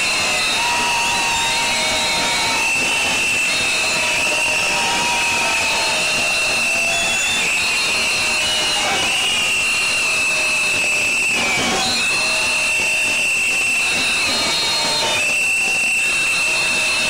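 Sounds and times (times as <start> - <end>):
shrill whistles blown: 0.0 - 17.0.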